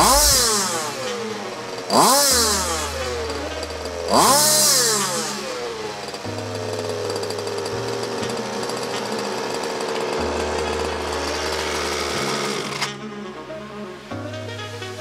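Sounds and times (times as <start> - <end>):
small two-stroke engine revving: 0.0 - 13.2
background music with bass line: 0.0 - 15.0.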